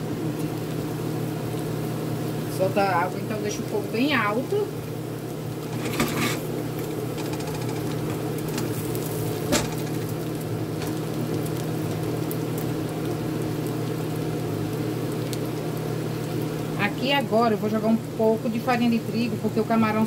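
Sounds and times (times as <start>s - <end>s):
shrimp sizzling in a frying pan: 0.0s - 20.0s.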